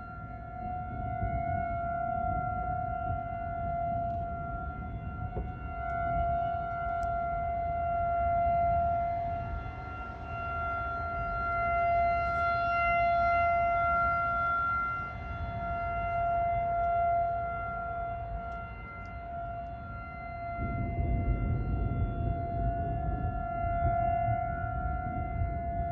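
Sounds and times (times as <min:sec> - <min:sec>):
low rumbling noise: 0:00.0 - 0:25.9
tornado warning siren: 0:00.0 - 0:25.9.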